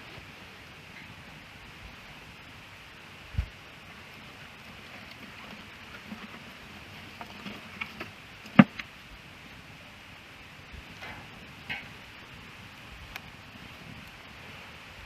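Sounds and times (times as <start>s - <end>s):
fire crackling pops: 0.0s - 9.1s, 10.7s - 14.7s
wood fire hissing: 0.0s - 15.0s.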